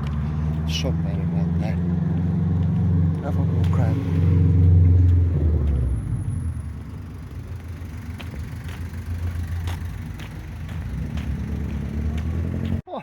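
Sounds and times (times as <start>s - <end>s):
car passing: 0.0s - 12.8s
low traffic rumble: 0.0s - 12.8s.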